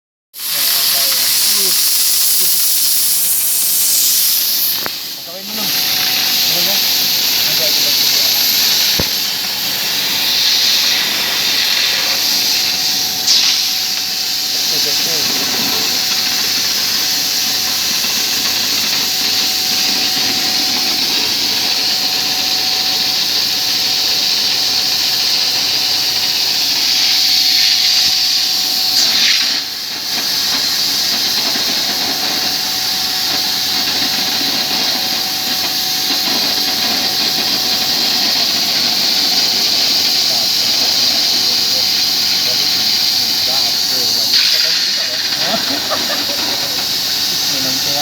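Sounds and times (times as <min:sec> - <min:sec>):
cutting torch flame hissing: 0:00.3 - 0:48.0.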